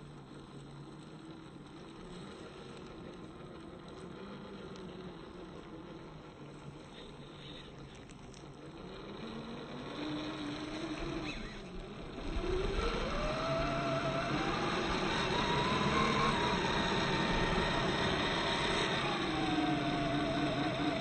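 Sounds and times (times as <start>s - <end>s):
electric motor whining under load: 0.0s - 21.0s.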